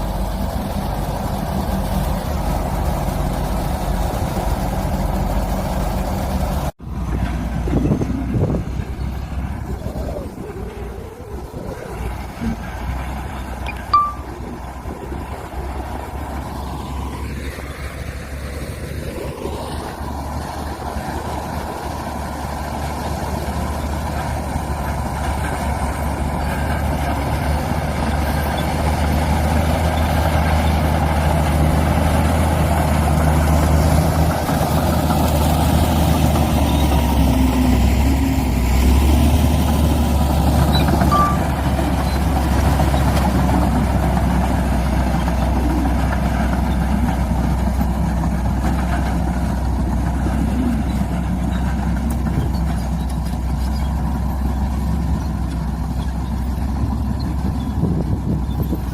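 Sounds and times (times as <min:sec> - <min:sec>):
heavy machinery diesel engines: 0:00.0 - 0:58.9.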